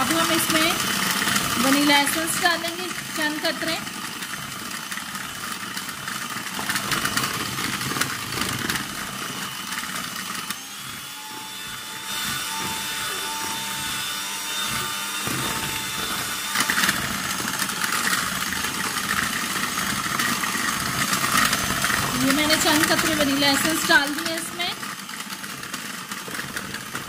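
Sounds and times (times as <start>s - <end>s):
electric hand mixer whirring: 0.0s - 27.0s.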